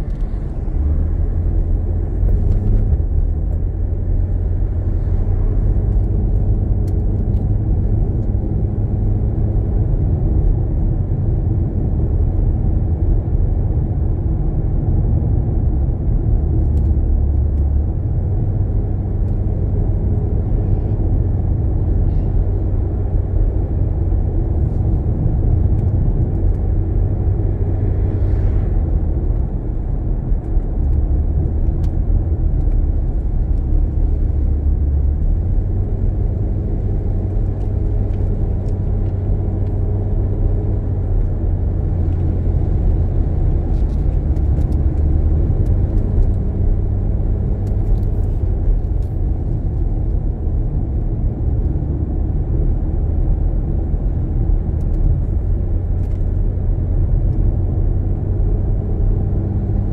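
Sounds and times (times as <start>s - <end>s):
car tyres and engine rumbling: 0.0s - 59.9s.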